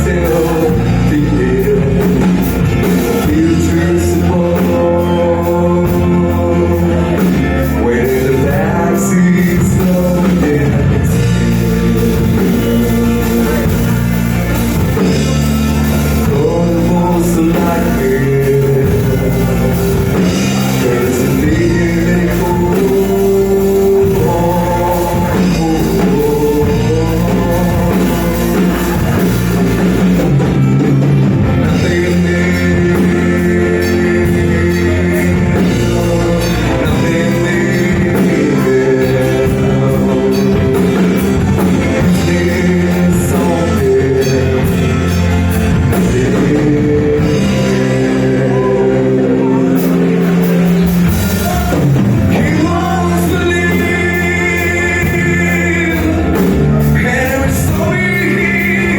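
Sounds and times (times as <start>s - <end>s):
live rock band playing: 0.0s - 58.9s
person singing: 0.0s - 58.9s.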